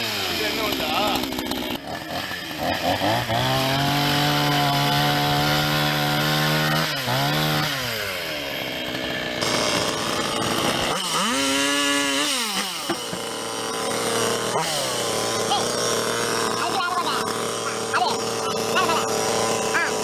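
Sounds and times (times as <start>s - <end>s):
chainsaw engine revving and idling: 0.0s - 20.0s.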